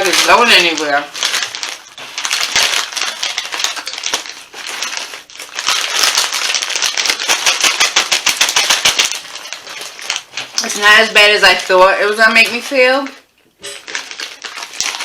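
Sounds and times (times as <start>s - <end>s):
crunching chips: 0.0s - 11.8s, 13.6s - 15.0s.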